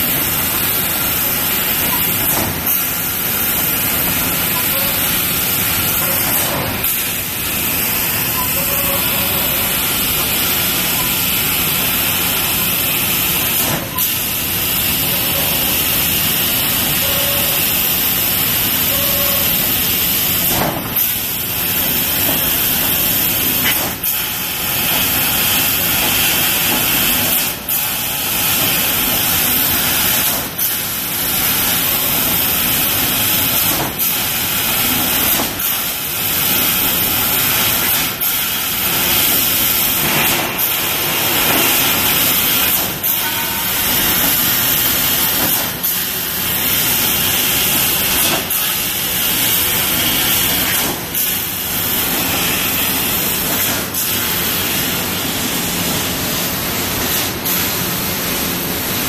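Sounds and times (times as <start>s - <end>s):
laser cutter hissing: 0.0s - 59.0s.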